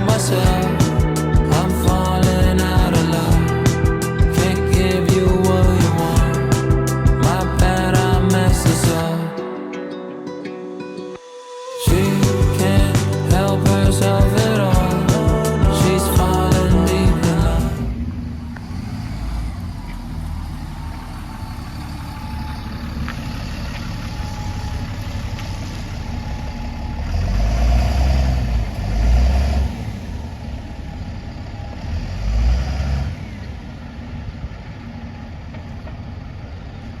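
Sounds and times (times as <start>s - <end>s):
bus engine rumble: 0.0s - 9.2s, 11.9s - 32.4s.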